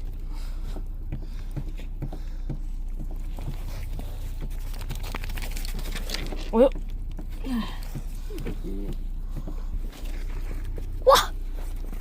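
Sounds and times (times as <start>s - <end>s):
dog paws tapping and scuffing: 0.0s - 12.0s
steady low hum: 0.0s - 12.0s.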